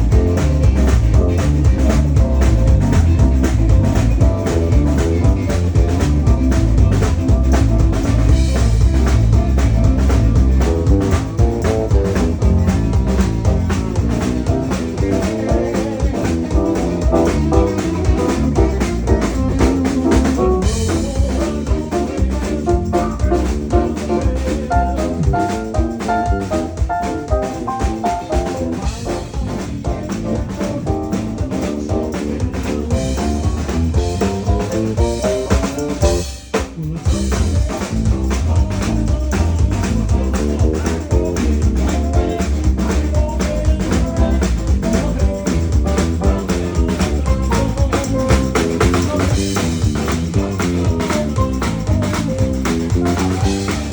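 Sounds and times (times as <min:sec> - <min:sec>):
drum kit: 0:00.0 - 0:53.9
electric guitar: 0:00.0 - 0:53.9
live band playing: 0:00.0 - 0:53.9.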